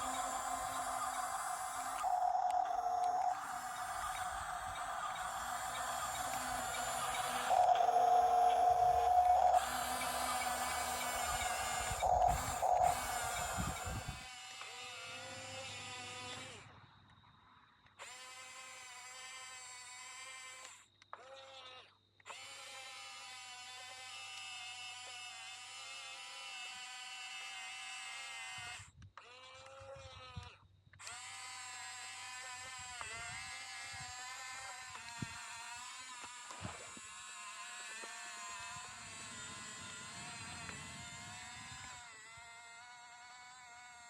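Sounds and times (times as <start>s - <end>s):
small electric motors whining: 0.0s - 16.6s, 18.0s - 44.0s.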